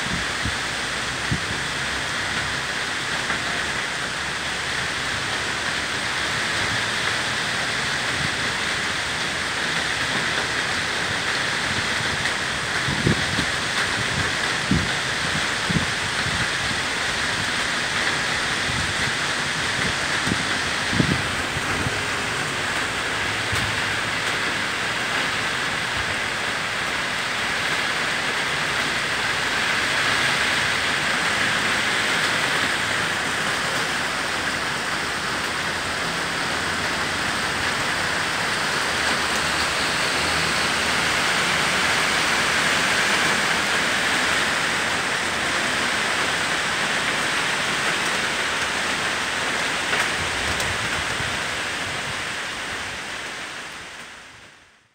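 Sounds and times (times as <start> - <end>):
rain falling on foliage: 0.0 - 54.9.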